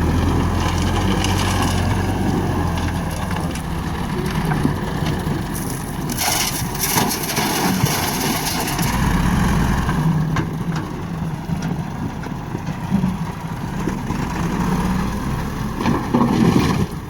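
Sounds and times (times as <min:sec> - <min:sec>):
loader bucket scraping stones: 0:00.0 - 0:17.0
tractor diesel engine under load: 0:00.0 - 0:17.0.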